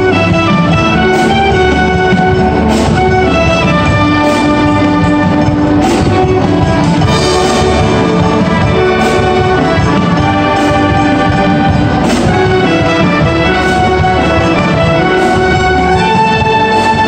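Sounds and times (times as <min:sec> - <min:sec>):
concert band playing chords: 0:00.0 - 0:17.0
sharp percussion accent: 0:00.0 - 0:17.0.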